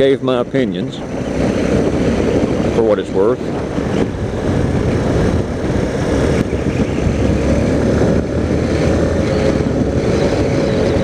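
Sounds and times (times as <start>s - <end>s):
motorcycle engine running: 0.0s - 11.0s
wind rumble: 0.0s - 11.0s.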